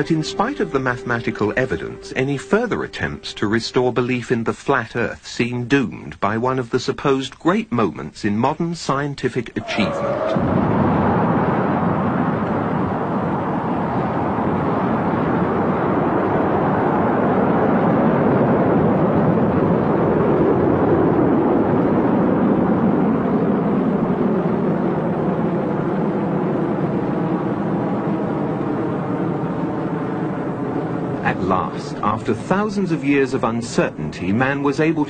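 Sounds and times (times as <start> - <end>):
rocket engines roaring: 0.0 - 4.5, 9.3 - 35.0.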